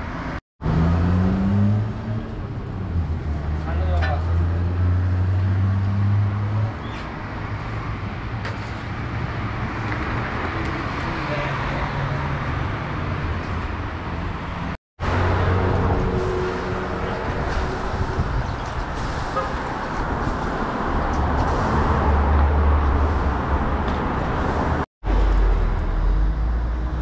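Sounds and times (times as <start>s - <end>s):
vehicles passing: 0.0s - 27.0s.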